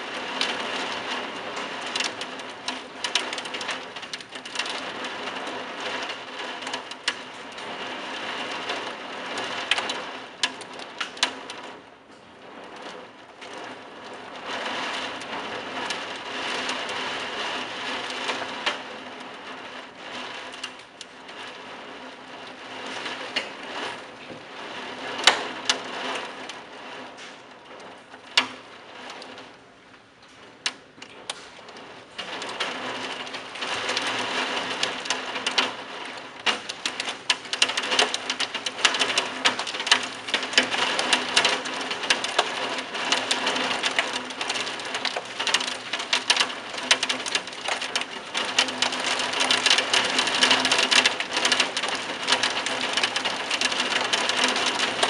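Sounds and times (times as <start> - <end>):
raindrop impacts: 0.0 - 55.0.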